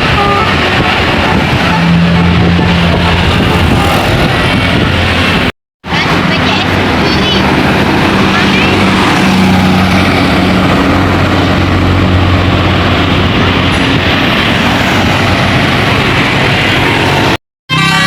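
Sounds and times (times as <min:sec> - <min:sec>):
bus engine humming: 0:00.0 - 0:18.0
road noise: 0:00.0 - 0:18.0.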